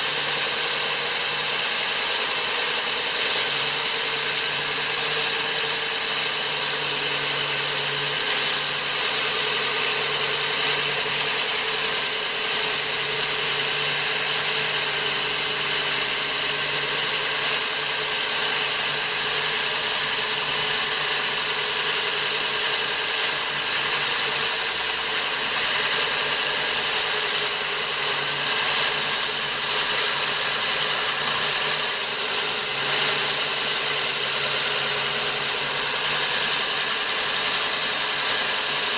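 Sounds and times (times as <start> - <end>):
core drill motor droning: 0.0 - 38.9.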